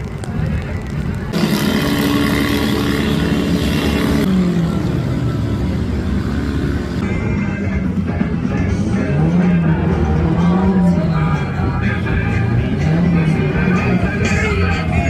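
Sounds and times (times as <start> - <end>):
car engine revving: 1.3 - 15.0.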